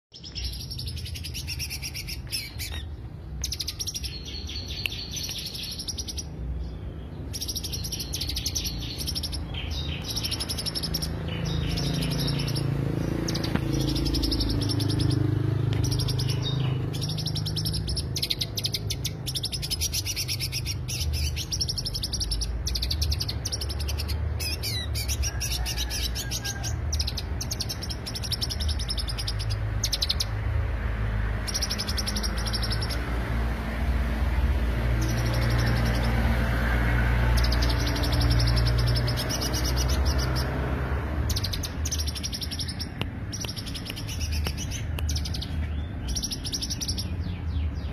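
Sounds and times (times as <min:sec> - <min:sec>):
bird singing rapid chirps: 0:00.0 - 0:47.9.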